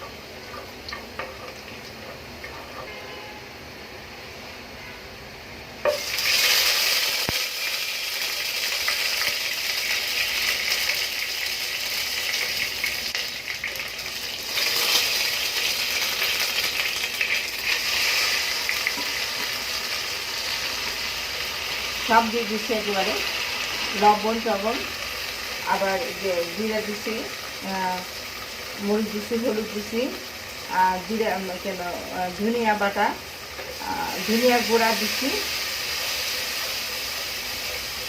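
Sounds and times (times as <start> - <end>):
onions sizzling in hot oil: 0.0 - 4.7, 5.8 - 38.0.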